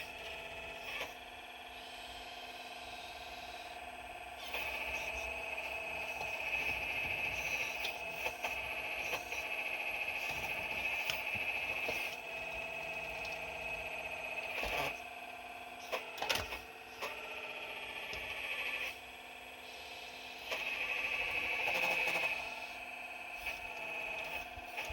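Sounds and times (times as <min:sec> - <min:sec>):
excavator whine: 0:00.0 - 0:24.9.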